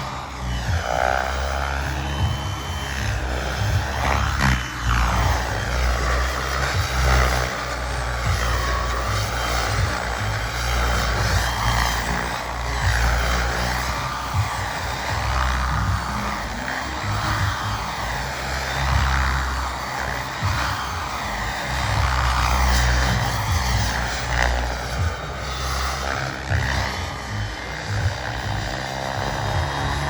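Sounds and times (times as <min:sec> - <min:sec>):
rc helicopter turbine whine: 0:00.0 - 0:30.0.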